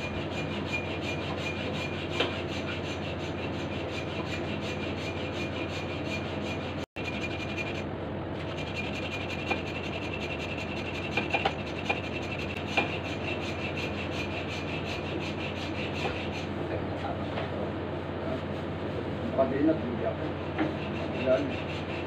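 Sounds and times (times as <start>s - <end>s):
hand saw rasping: 0.0s - 16.6s, 20.4s - 22.0s.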